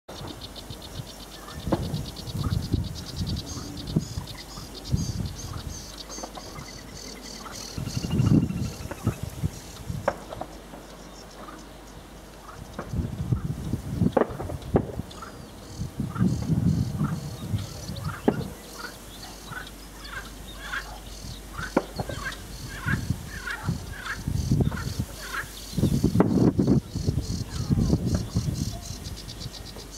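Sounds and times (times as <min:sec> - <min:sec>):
wind buffeting microphone: 0:00.1 - 0:10.7, 0:12.4 - 0:29.9
sedge warbler singing: 0:00.1 - 0:29.9.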